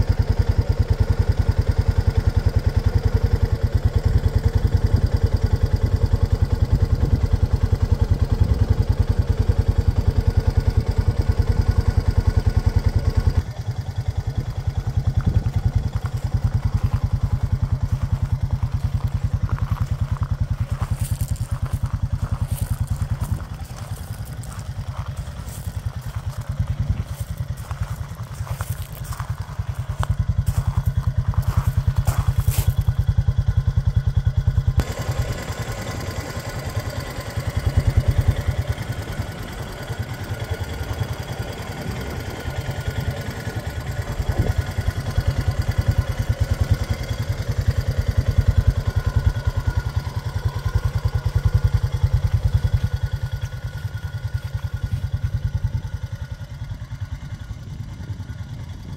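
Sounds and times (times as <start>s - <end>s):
atv engine idling: 0.0s - 58.9s.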